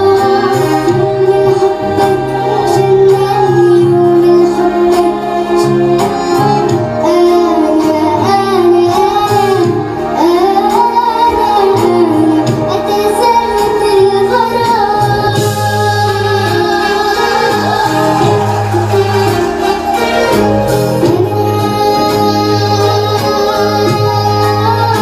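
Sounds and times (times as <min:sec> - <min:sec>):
instrumental accompaniment with bass: 0:00.0 - 0:25.0
person singing: 0:00.0 - 0:25.0.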